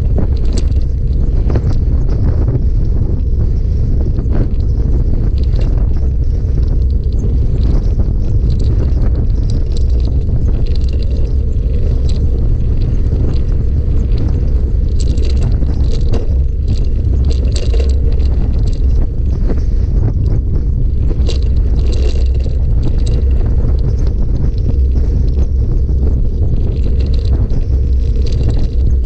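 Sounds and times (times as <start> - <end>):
bike rattles and clicks: 0.0 - 29.0
rumble of wind and tyres: 0.0 - 29.0.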